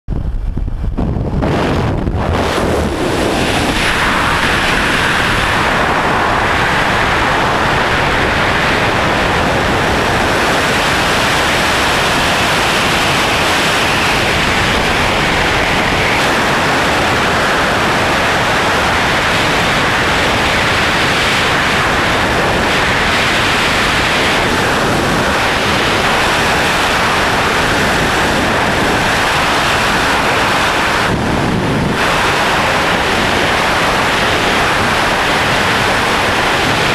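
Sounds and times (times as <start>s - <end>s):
wind rushing across microphone: 0.1s - 36.9s.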